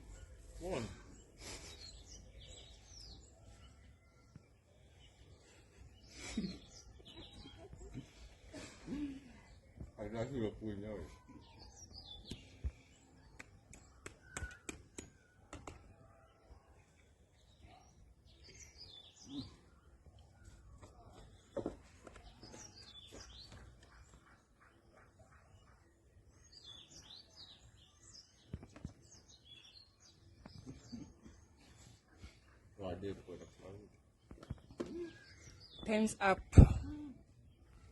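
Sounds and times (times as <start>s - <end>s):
birds chirping faintly: 0.0s - 37.9s.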